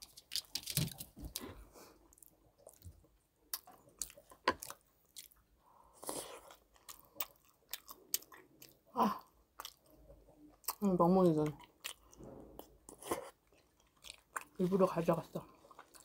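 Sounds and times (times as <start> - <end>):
chewing soft food: 0.0 - 16.0.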